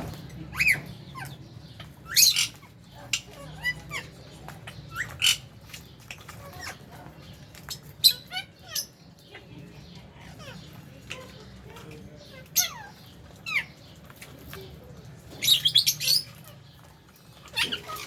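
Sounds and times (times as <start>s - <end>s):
lovebirds chirping: 0.0s - 18.0s.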